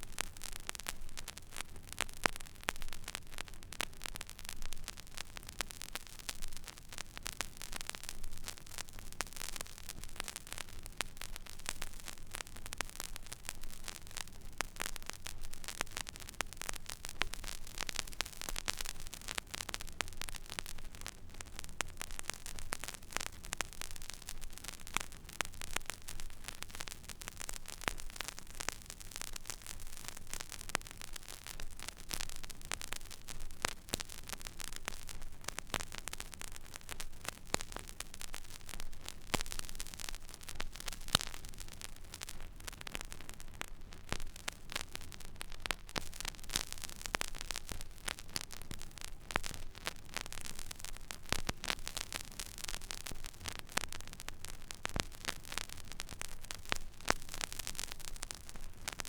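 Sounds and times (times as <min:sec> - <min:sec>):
vinyl surface hiss with crackles: 0:00.0 - 0:59.0.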